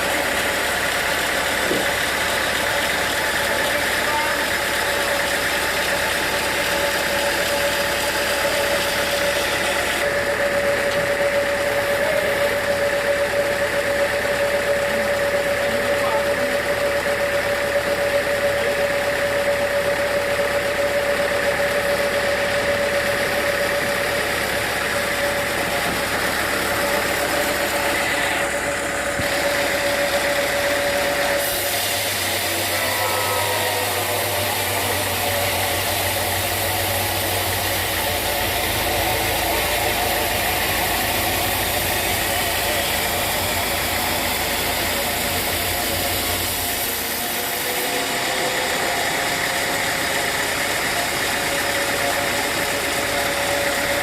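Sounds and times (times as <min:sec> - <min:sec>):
sawmill machinery whining: 0:00.0 - 0:54.0.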